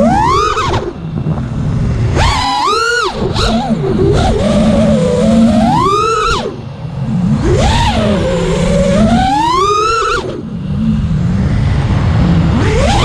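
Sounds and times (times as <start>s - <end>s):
drone motors whining: 0.0s - 13.0s
low rumble: 0.0s - 13.0s.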